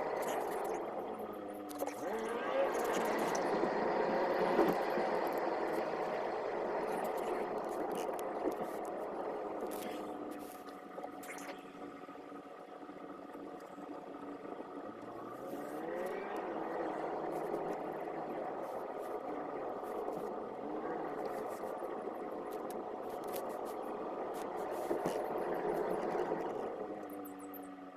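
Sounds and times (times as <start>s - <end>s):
car engine and road noise: 0.0s - 27.9s
steady hum: 0.0s - 27.9s.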